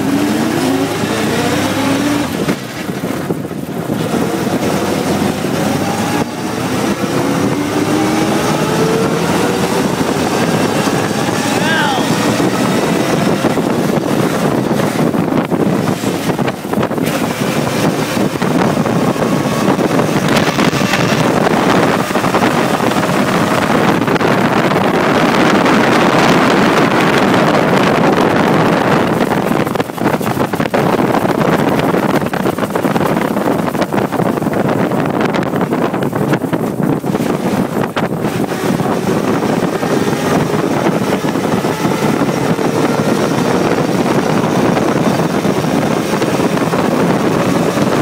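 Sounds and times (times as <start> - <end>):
racing car engine running: 0.0 - 48.0
wind buffeting microphone: 0.0 - 48.0.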